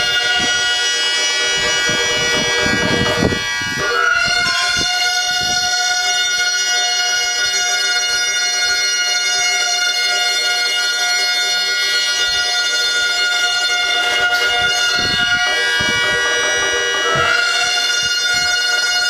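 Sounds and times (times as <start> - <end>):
reedy wind instrument chord: 0.0 - 19.0.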